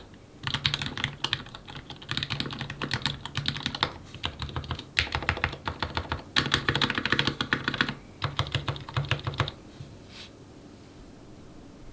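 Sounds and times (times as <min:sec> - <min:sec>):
mechanical keyboard typing: 0:00.0 - 0:09.6.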